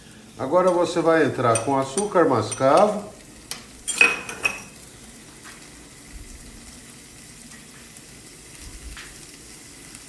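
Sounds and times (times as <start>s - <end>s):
butter sizzling in a frying pan: 0.0s - 10.0s.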